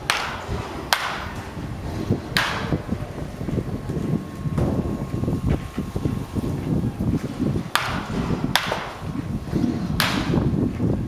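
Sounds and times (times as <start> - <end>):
baseball bat cracking ball: 0.0 - 6.0, 7.2 - 10.6
low rumbling background: 0.0 - 11.0.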